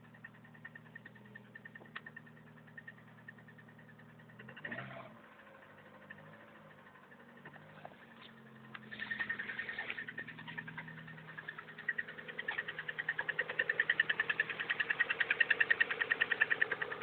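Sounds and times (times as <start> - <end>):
engine idling with rapid knock: 0.0 - 17.0.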